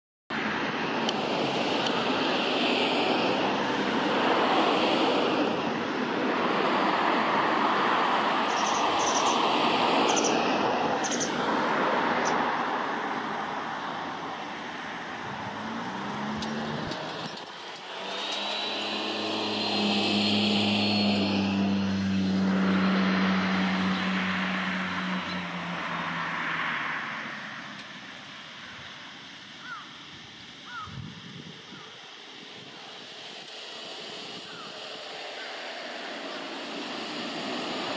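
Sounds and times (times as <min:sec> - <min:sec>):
vehicle engine humming: 0:00.3 - 0:37.9
cars rushing past: 0:00.4 - 0:28.7, 0:32.6 - 0:37.9.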